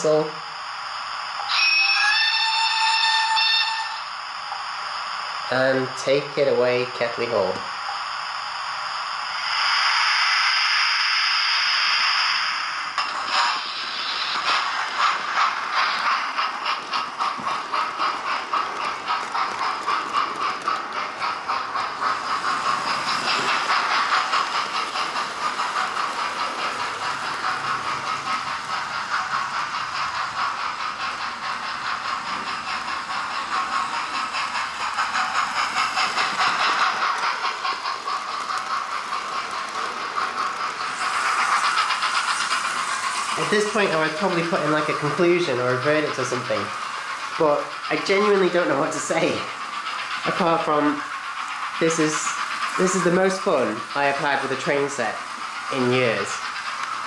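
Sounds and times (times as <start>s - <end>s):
steam locomotive chuffing through speaker: 1.2s - 4.1s, 5.4s - 7.8s, 9.3s - 57.0s
model train rattling on track: 1.3s - 4.6s, 5.4s - 8.0s, 9.2s - 57.0s.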